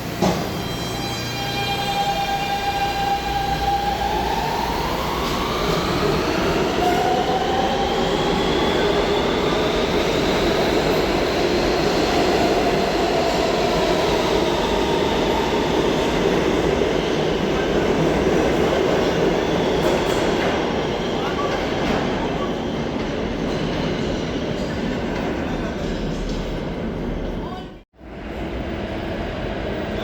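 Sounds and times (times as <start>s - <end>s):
subway wheel and rail rumble: 0.0s - 30.0s.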